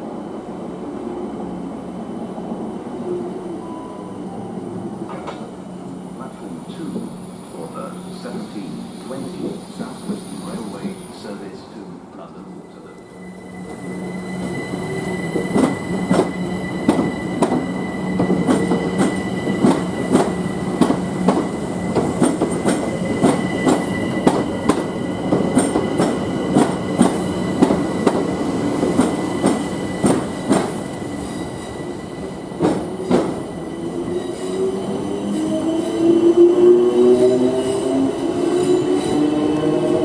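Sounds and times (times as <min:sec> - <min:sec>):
electric train whine: 0:00.8 - 0:40.0.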